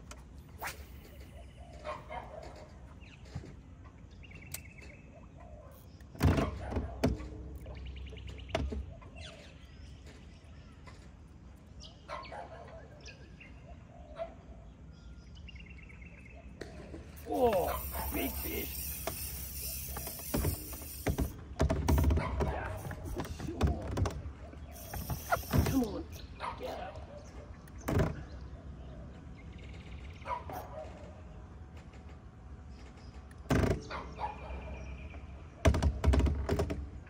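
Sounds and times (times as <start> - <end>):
birds chirping: 0.0 - 6.3, 7.0 - 35.8.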